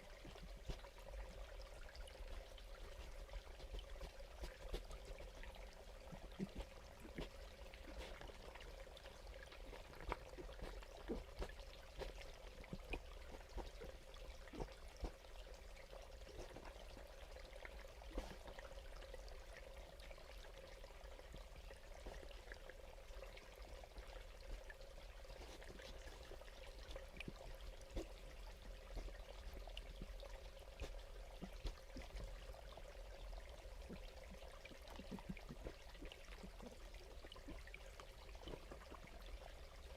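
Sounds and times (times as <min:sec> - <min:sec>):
faint trickling water: 0:00.0 - 0:39.9
small irregular ticks: 0:00.0 - 0:39.9.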